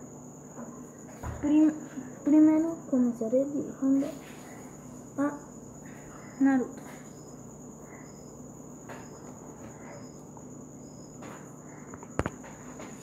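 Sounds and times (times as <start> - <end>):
insect chirping: 0.0 - 13.0
thin high whine: 0.0 - 13.0.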